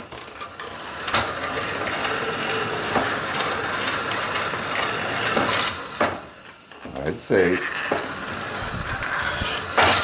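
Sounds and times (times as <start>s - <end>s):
hand-cranked blower whirring: 0.0s - 6.4s, 7.3s - 10.0s.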